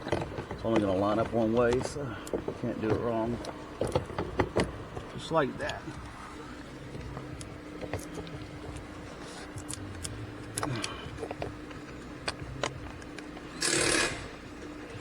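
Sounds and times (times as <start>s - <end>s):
engine idling hum: 0.0s - 15.0s.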